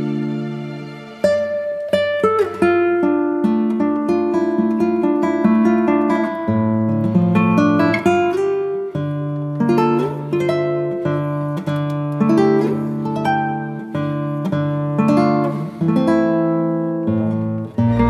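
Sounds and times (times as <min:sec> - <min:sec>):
acoustic guitar picking: 0:01.2 - 0:18.0.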